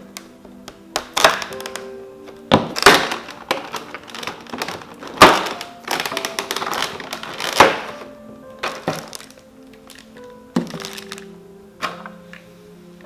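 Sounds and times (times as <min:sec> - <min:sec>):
plastic packaging crackling: 0:00.0 - 0:11.4
soft background music: 0:00.0 - 0:13.0.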